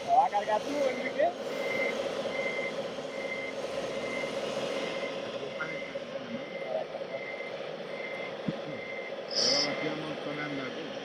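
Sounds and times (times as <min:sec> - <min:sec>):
reversing beeper: 0:01.4 - 0:10.6.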